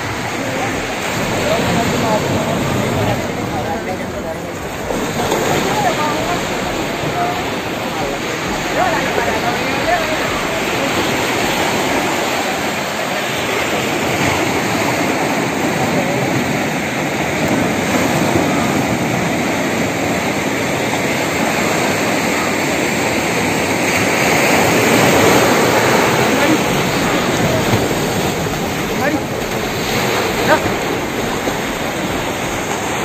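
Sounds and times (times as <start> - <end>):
breaking surf: 0.0 - 33.0
wind: 0.0 - 33.0.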